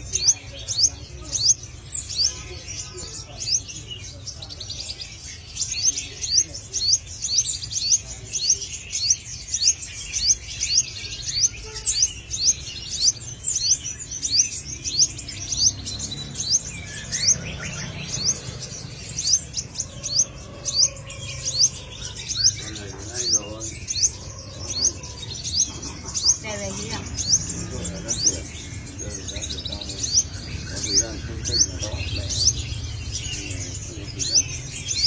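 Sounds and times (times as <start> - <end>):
bird chirping: 0.0 - 35.0.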